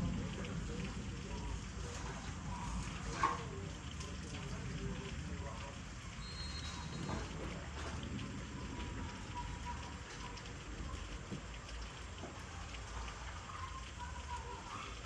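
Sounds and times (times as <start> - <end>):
raindrops ticking close by: 0.0 - 15.0
steady rain: 0.0 - 15.0.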